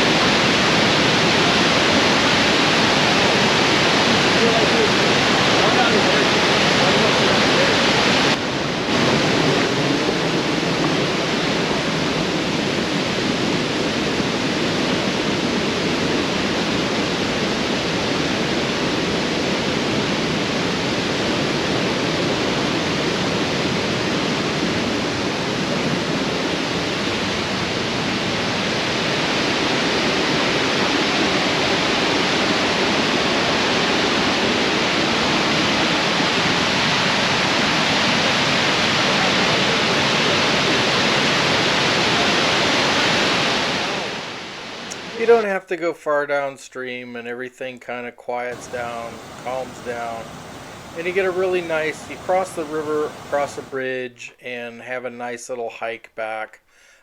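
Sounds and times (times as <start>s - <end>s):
waterfall rushing: 0.0s - 45.5s, 48.5s - 53.9s.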